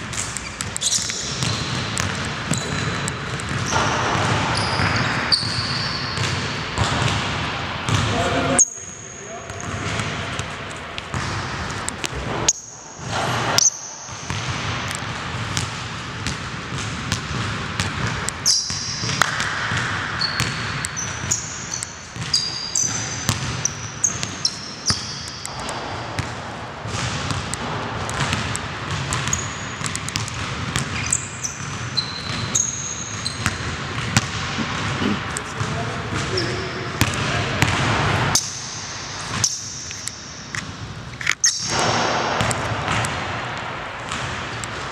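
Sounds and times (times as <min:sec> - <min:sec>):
sneakers squeaking: 0:00.0 - 0:44.9
basketball bouncing on wooden floor: 0:00.2 - 0:08.2, 0:09.5 - 0:12.4, 0:13.0 - 0:38.5, 0:41.6 - 0:43.4, 0:44.0 - 0:44.9.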